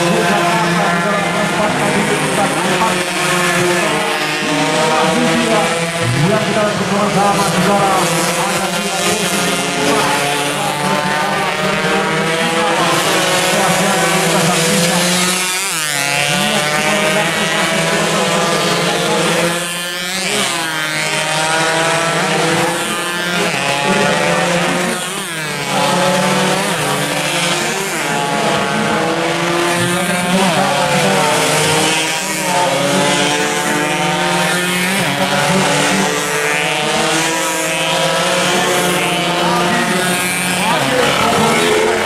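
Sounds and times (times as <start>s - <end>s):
two-stroke motorcycles racing: 0.0s - 42.0s.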